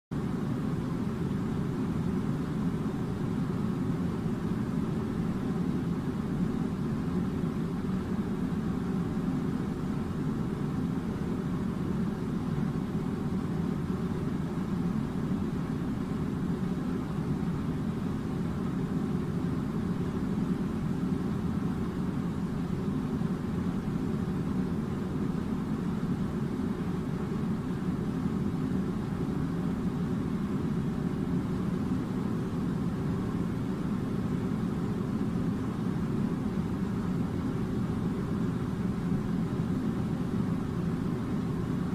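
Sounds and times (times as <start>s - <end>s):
low mechanical drone: 0.1s - 41.9s.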